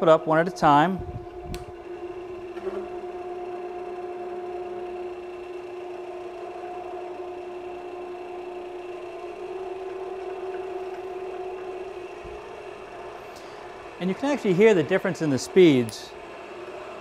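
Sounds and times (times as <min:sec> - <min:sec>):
wood lathe motor whine: 0:00.0 - 0:17.0.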